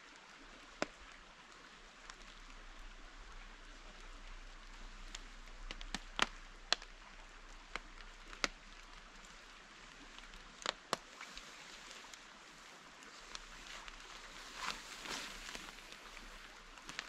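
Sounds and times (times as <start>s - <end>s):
light rain hissing: 0.0s - 17.0s.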